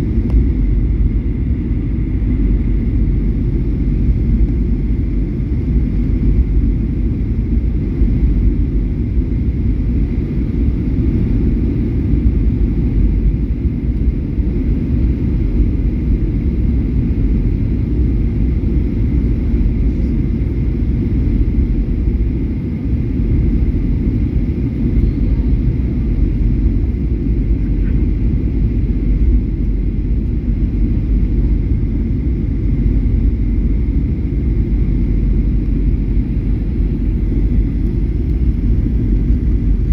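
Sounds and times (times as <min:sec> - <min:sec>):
jet airliner rumble: 0:00.0 - 0:39.9.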